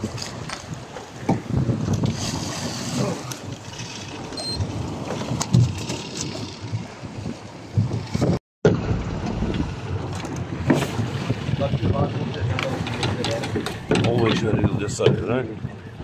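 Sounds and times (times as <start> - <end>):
rough sea washing against boat: 0.0 - 16.0
wind buffeting microphone: 0.0 - 16.0.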